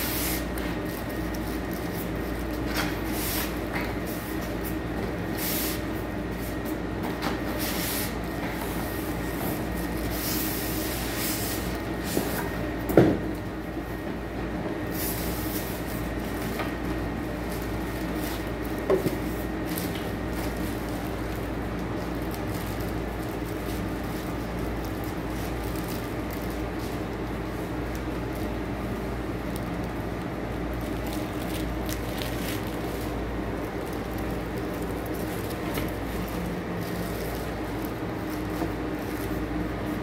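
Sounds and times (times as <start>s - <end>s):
steady low hum: 0.0s - 40.0s
cardboard and plastic rustling: 0.1s - 40.0s.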